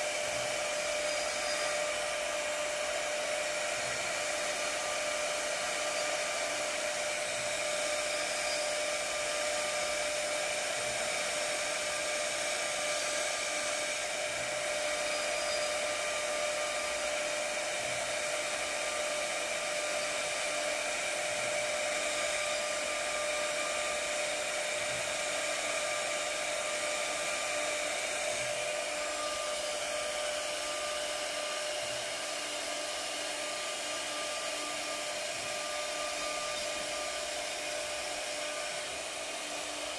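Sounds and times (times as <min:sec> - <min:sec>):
router spindle motor whining: 0:00.0 - 0:39.9.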